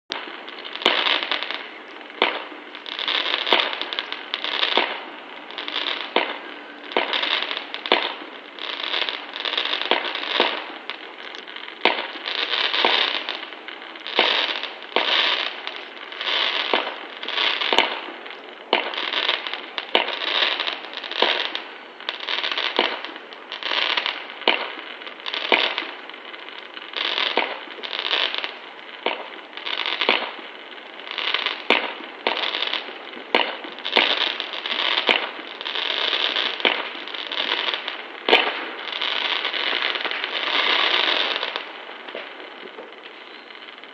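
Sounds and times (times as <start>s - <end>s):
fireworks crackling bursts: 0.0s - 43.9s
sharp firework cracks: 0.1s - 43.9s.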